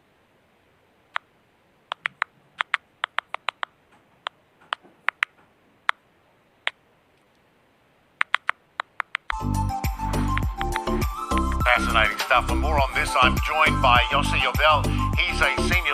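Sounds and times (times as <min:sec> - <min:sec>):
faint hiss: 0:00.0 - 0:15.9.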